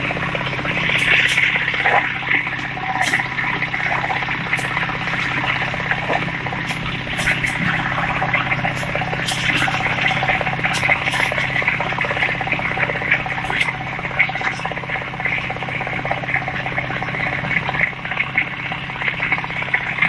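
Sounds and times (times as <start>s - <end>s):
concrete mixer engine humming: 0.0s - 20.0s.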